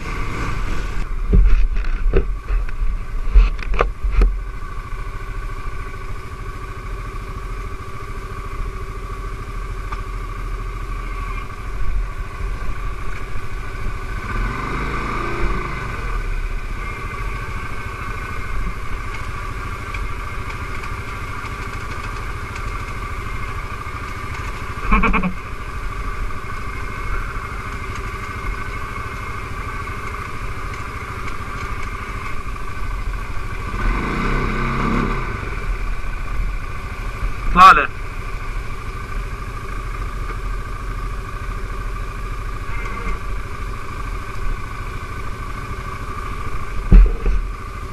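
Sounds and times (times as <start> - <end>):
atv engine idling and revving: 0.0 - 47.9.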